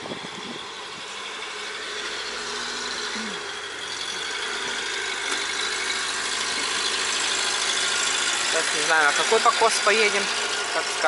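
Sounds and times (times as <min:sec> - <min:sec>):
rattle: 0:00.0 - 0:11.0
vehicle running: 0:00.0 - 0:11.0.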